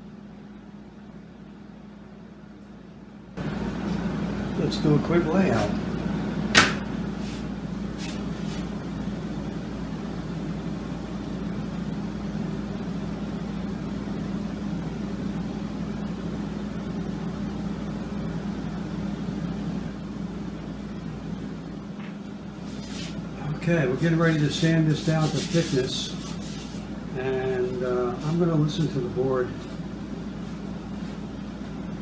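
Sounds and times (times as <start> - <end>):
shop machinery hum: 0.0 - 32.0.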